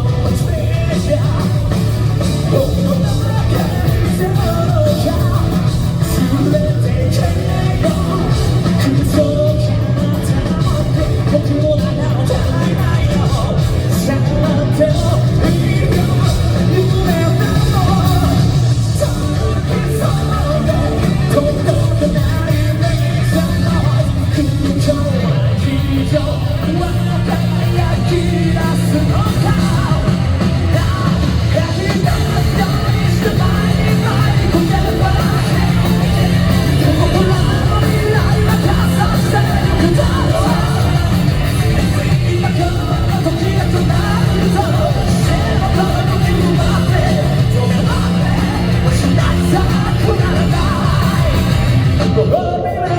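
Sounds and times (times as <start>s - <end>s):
electric guitar: 0.0s - 52.9s
live rock band playing: 0.0s - 52.9s
man singing: 0.0s - 52.9s.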